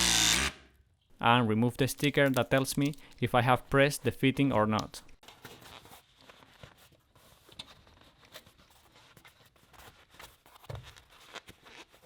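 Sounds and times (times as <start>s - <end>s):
faint handling clicks and rustles: 1.7s - 11.9s.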